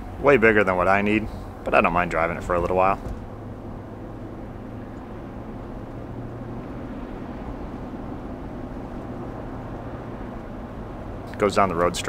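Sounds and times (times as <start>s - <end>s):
truck engine and tyres droning: 0.0s - 12.0s.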